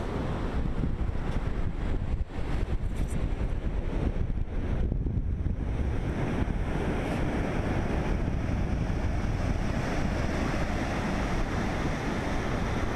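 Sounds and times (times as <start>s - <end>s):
surf breaking on sand: 0.0s - 12.9s
wind buffeting microphone: 0.0s - 12.9s.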